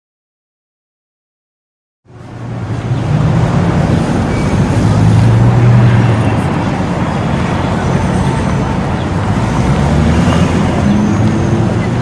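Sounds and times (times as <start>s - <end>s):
city road traffic: 2.0s - 12.0s
car engines humming: 2.1s - 12.0s.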